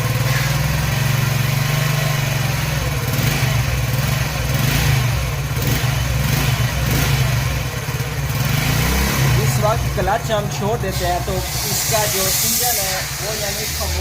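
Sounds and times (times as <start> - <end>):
motorcycle engine idling: 0.0 - 14.0
rough engine noise: 0.0 - 14.0.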